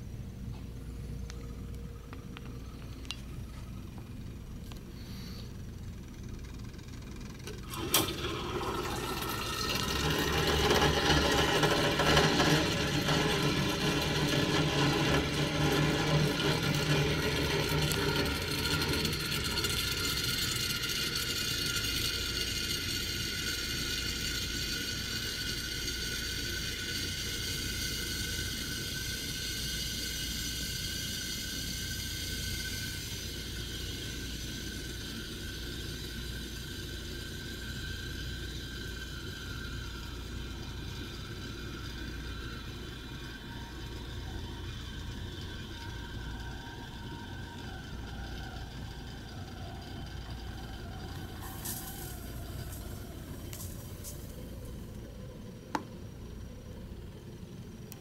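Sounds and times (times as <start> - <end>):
autoclave rushing hiss: 2.6 - 58.0.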